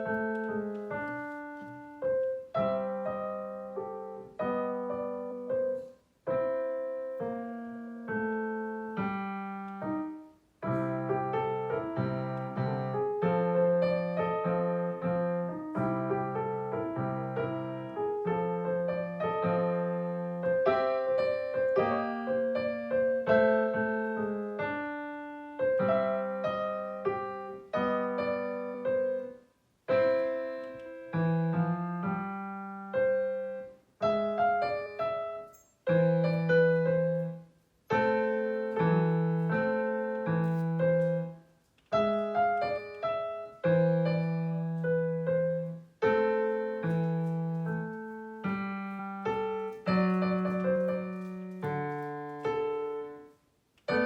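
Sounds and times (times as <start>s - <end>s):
solo piano: 0.0s - 54.0s.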